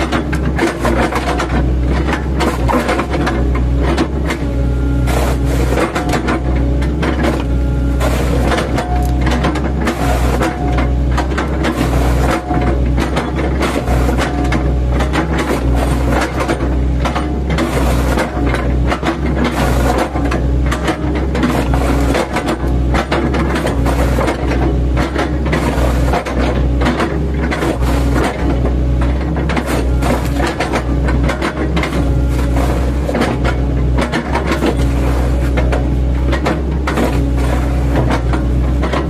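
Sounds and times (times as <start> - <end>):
bucket chopping tree trunks: 0.0 - 39.0
diesel engine running under load: 0.0 - 39.0.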